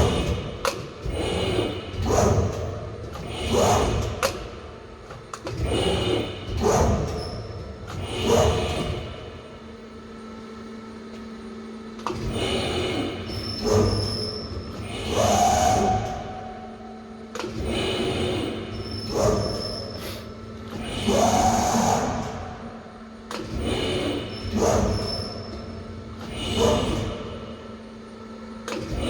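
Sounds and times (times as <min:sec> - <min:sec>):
steady machine hum: 0:00.0 - 0:29.0.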